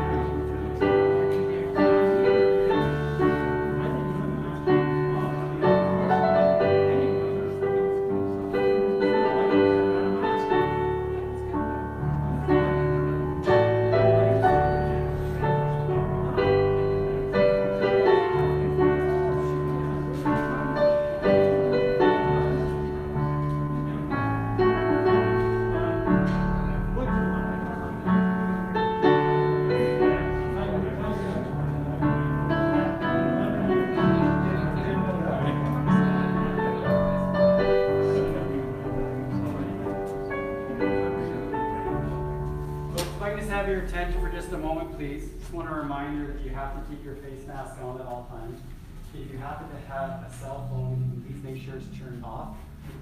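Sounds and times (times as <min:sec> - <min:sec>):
slow piano music: 0:00.0 - 0:53.0.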